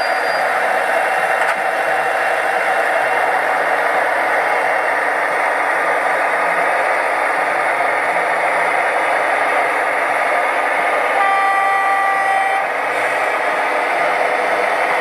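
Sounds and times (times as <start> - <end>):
thin diesel engine running sound: 0.0 - 15.0.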